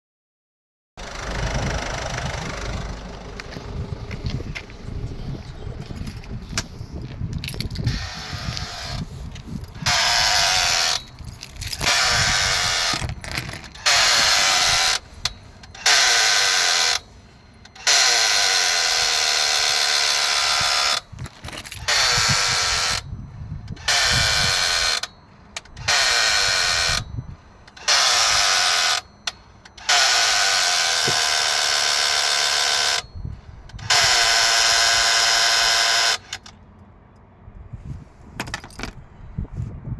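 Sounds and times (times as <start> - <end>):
buzzing whir from van: 1.0 - 36.6.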